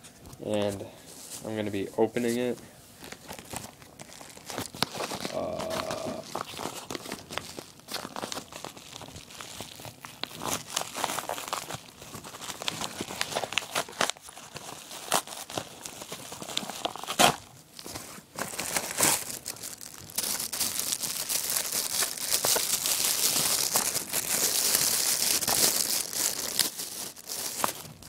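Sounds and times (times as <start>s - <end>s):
packaging rustling: 0.4s - 28.0s
mail package crinkling and tearing: 2.4s - 28.0s.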